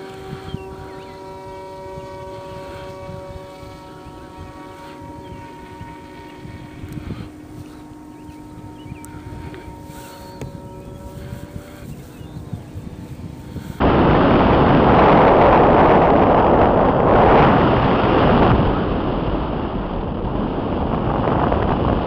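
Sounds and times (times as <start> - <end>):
wind and propeller noise: 0.0 - 22.0.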